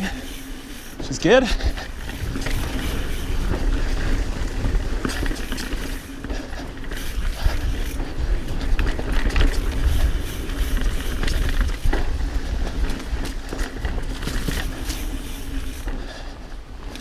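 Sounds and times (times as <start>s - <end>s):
bike rattling and knocking: 0.0s - 17.0s
bike tyre noise on dirt: 0.0s - 17.0s
wind rumble on microphone: 0.0s - 17.0s.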